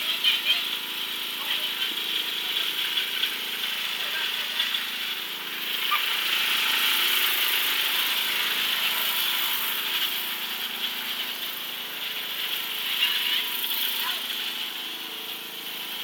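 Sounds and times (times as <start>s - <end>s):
small tractor engine running: 0.0s - 16.0s.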